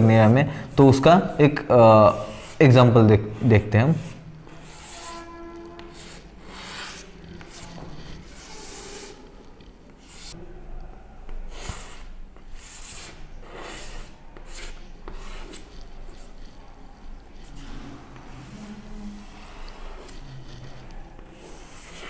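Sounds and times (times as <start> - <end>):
chalk scratching on chalkboard: 0.1 - 9.3, 10.0 - 10.4, 11.5 - 22.0.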